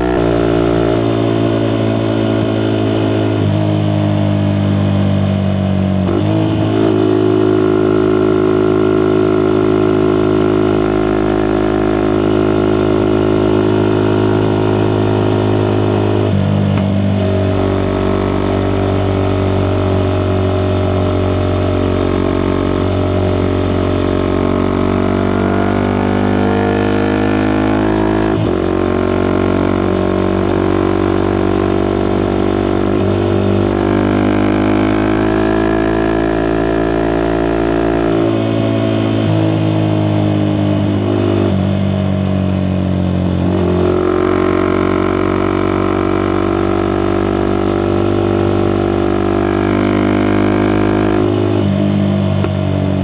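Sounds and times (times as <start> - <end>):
motorcycle engine droning: 0.0 - 53.0.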